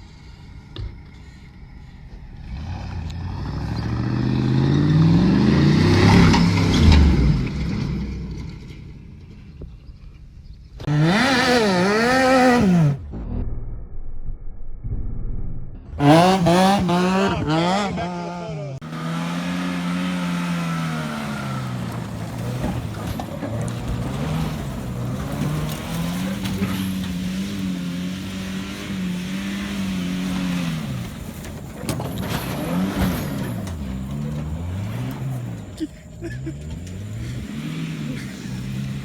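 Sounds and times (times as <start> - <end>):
truck engine revving hard: 2.4 - 8.7, 10.8 - 13.1, 15.9 - 39.0.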